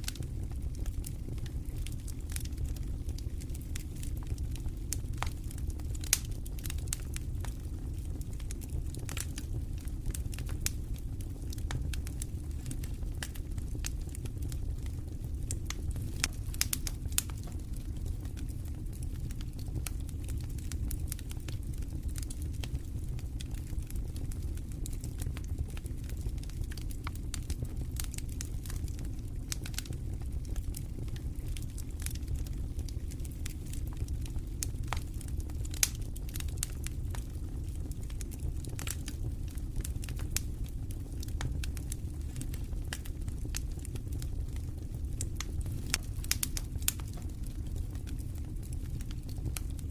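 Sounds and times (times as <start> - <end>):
campfire crackling and popping: 0.0 - 49.9
low rumble of wind: 0.0 - 49.9.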